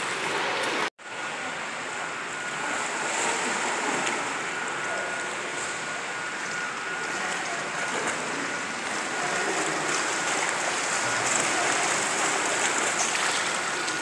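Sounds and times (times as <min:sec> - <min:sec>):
pool water noise: 0:00.0 - 0:14.0.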